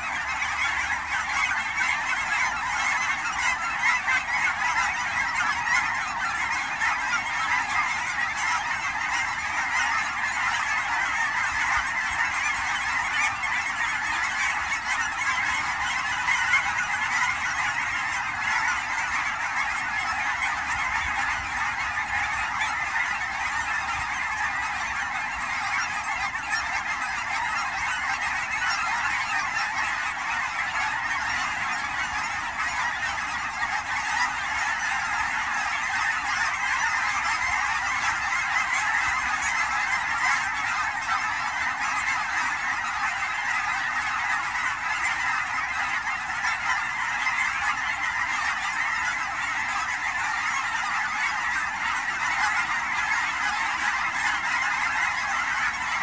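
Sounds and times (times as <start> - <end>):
flock of geese honking: 0.0 - 56.0.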